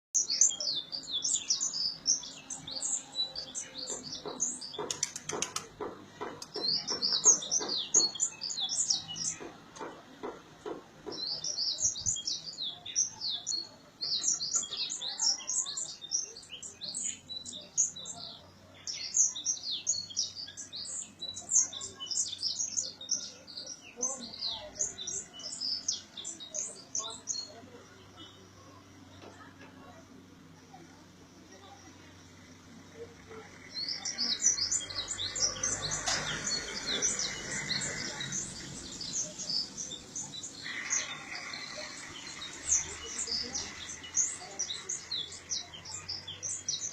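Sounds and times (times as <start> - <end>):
small birds chirping: 0.1 - 46.9.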